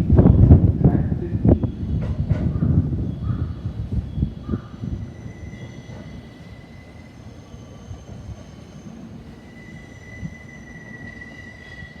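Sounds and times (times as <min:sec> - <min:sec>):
electric train rumble and whine: 0:00.0 - 0:12.0.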